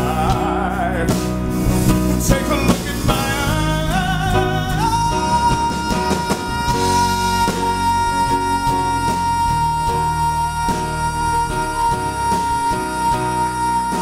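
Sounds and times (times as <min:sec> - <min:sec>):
live band with drums: 0:00.0 - 0:14.0
man singing into a microphone: 0:00.0 - 0:14.0.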